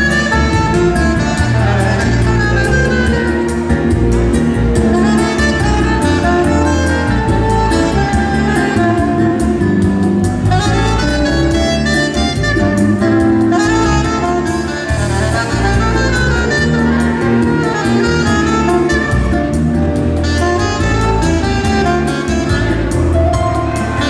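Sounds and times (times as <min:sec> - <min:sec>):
electronic keyboard with beat: 0:00.0 - 0:24.0
saxophone melody: 0:00.0 - 0:24.0.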